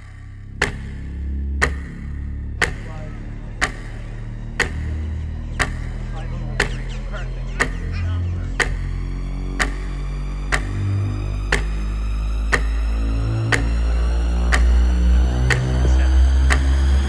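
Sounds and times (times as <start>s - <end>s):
clock ticking: 0.0s - 17.0s
low background music: 0.0s - 17.0s.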